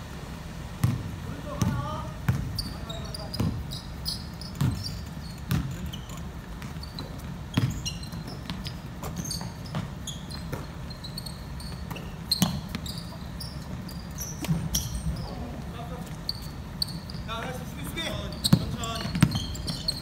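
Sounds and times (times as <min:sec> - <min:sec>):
basketball bouncing on wooden floor: 0:00.8 - 0:15.3, 0:18.4 - 0:20.0
sneakers squeaking on hardwood: 0:00.8 - 0:20.0.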